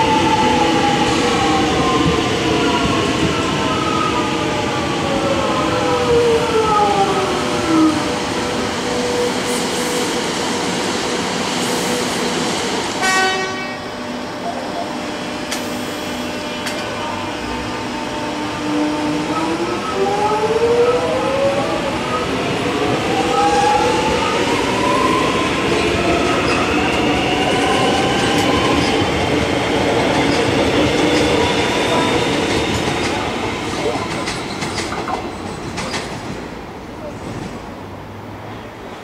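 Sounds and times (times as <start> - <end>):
train wheels on rails: 0.0 - 13.8, 14.4 - 37.8.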